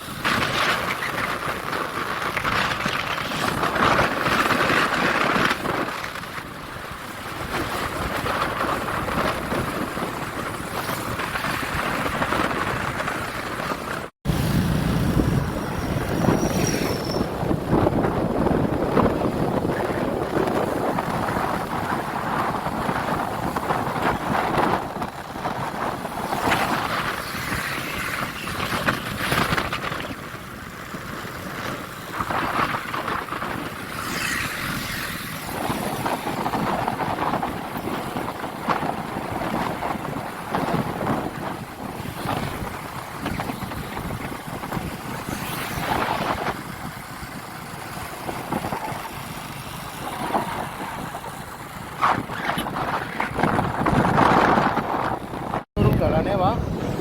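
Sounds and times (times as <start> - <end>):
vehicle noise: 0.0 - 57.0
wind buffeting microphone: 0.0 - 57.0.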